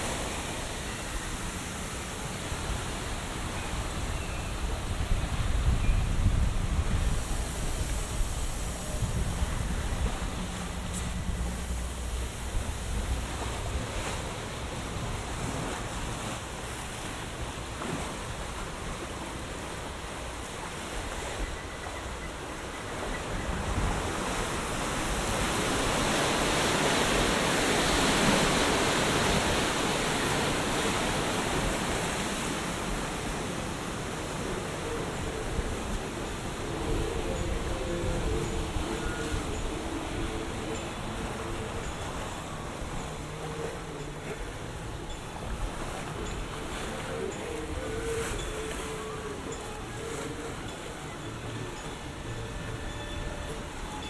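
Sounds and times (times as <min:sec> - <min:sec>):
rushing churning water: 0:00.0 - 0:54.0.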